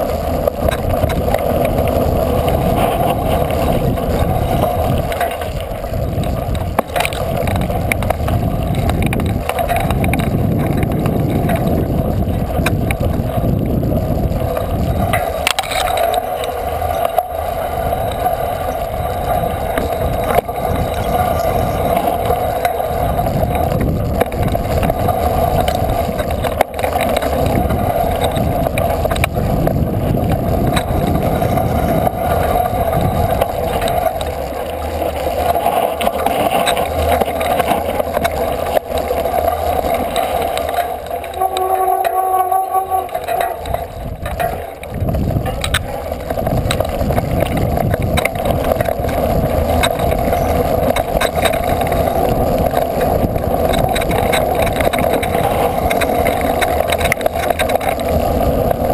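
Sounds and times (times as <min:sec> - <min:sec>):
bike drone and rumble: 0:00.0 - 0:58.9.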